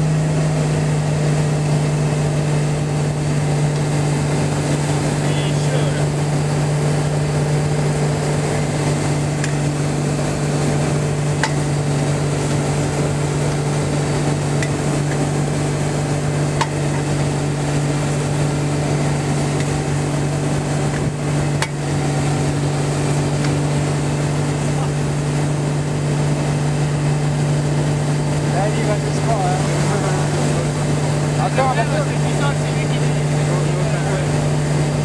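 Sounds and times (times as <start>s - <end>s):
boat engine droning: 0.0s - 35.0s
water rushing around hull: 0.0s - 35.0s.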